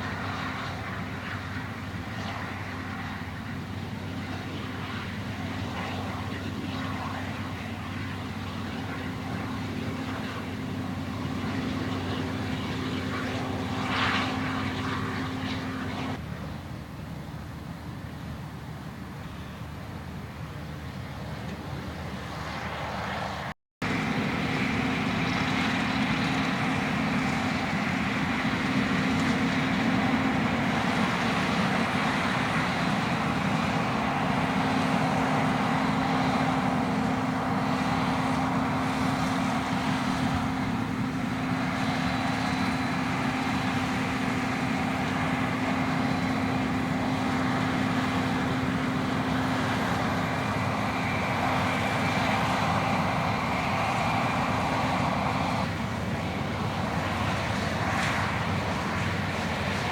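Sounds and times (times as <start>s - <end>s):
farm machinery engine droning: 0.0s - 59.9s.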